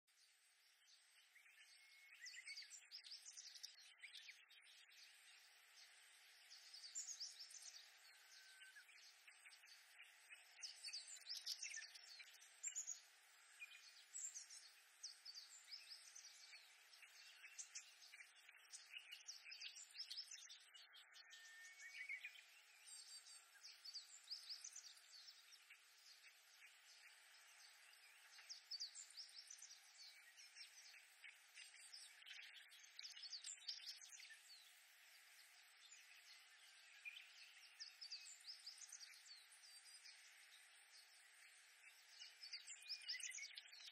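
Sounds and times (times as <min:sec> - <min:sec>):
faint steady hiss: 0:00.1 - 0:43.9
reed warblers singing: 0:00.8 - 0:43.9.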